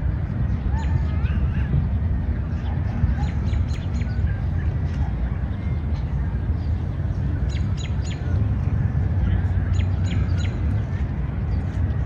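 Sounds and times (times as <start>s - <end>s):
songbirds chirping: 0.0s - 12.0s
steady low rumble: 0.0s - 12.0s.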